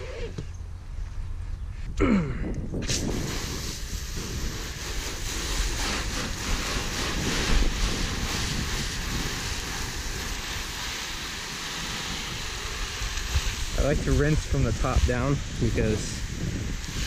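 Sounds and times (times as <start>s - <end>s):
hose water spraying on car: 2.9s - 17.0s.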